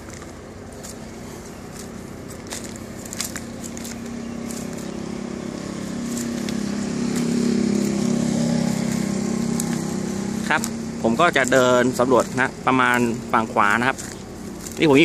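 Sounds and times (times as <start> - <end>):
crunching footsteps: 0.0 - 15.0
engine hum: 0.0 - 15.0.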